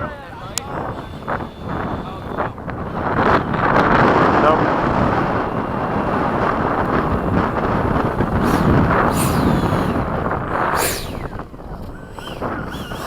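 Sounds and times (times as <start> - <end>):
model jet high whine: 0.0 - 13.0
wind buffeting microphone: 0.0 - 13.0.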